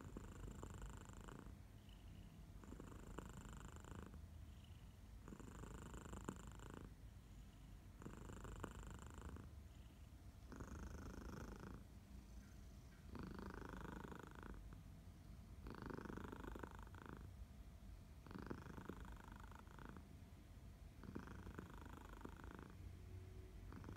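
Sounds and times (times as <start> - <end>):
cat purring: 0.0 - 14.9, 15.6 - 17.4, 18.2 - 20.2, 21.0 - 23.9.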